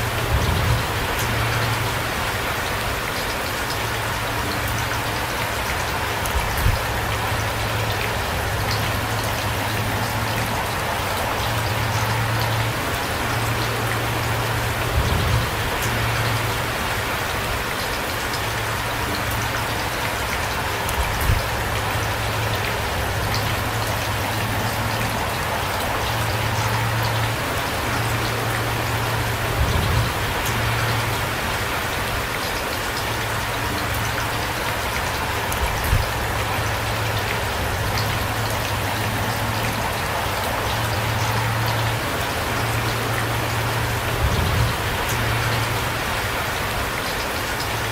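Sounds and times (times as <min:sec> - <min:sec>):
heavy rain pattering: 0:00.0 - 0:47.9.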